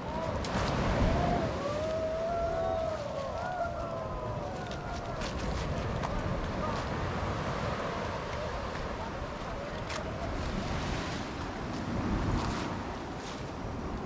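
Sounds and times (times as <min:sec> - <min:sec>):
sea waves on rocky shore: 0:00.0 - 0:14.0
wind buffeting microphone: 0:00.0 - 0:14.0.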